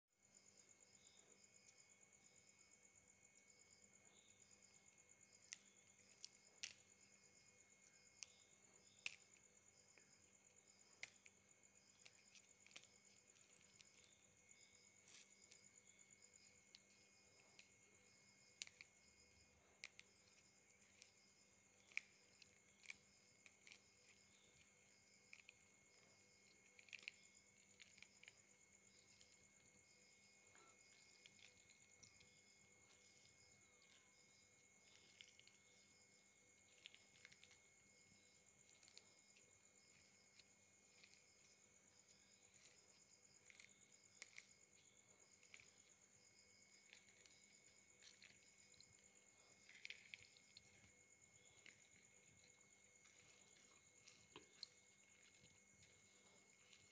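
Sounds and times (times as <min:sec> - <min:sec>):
crickets chirring: 0:00.2 - 0:56.9
high-pitched insect trill: 0:00.2 - 0:56.9.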